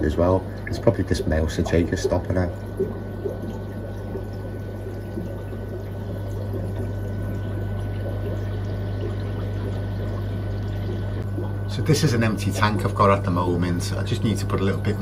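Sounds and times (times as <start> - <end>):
steady low hum: 0.0 - 15.0
water bubbling and trickling: 0.0 - 15.0.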